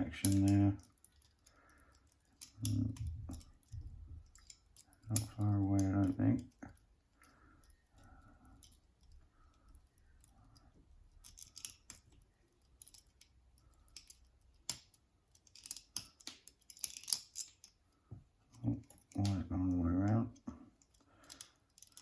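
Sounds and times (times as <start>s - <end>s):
lock pick scraping and clicking: 0.2s - 17.8s, 20.7s - 22.0s.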